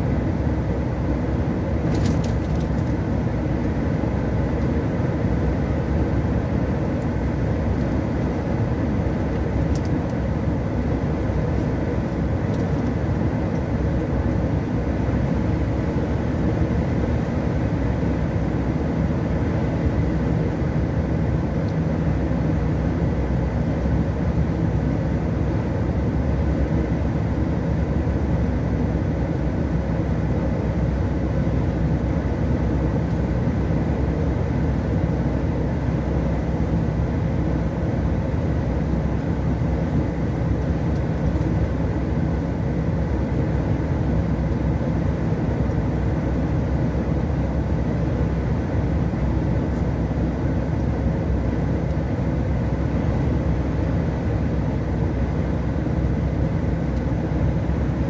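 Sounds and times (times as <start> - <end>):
road and engine noise in car: 0.0 - 58.0.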